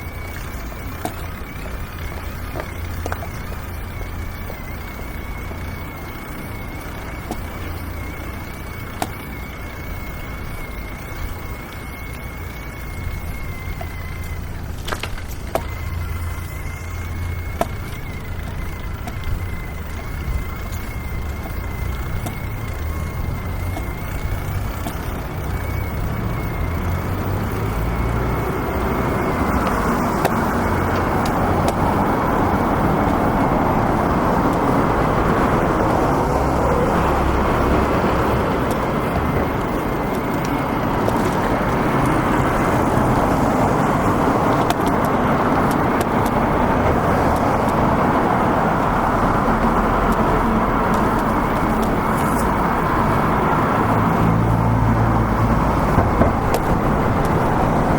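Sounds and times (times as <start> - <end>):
passing cars rumble: 0.0 - 57.9
sharp clicks: 0.0 - 57.9.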